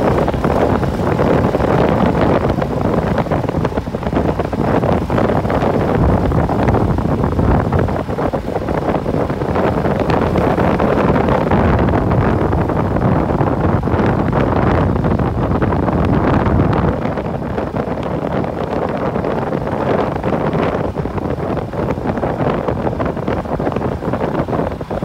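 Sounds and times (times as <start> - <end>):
low rumble of bike ride: 0.0 - 25.0
wind rushing over microphone: 0.0 - 25.0.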